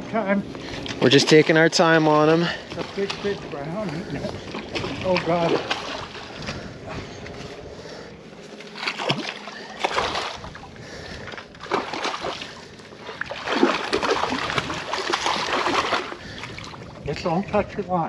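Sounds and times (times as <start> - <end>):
fish thrashing and splashing: 2.3 - 17.1.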